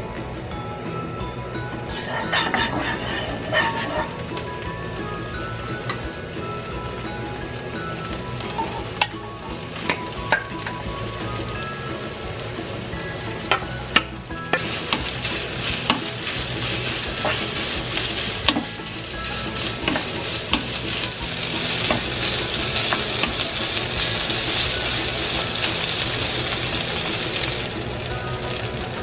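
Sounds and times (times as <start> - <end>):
food sizzling in a frying pan: 1.6 - 29.0.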